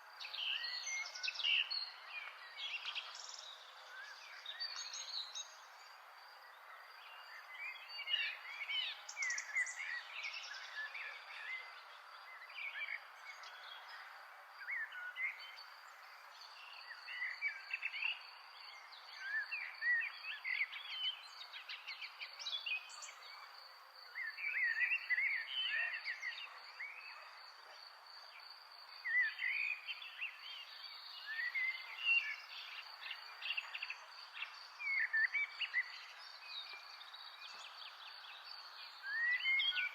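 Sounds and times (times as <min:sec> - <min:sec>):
small birds chirping: 0:00.0 - 0:28.2, 0:29.0 - 0:39.9.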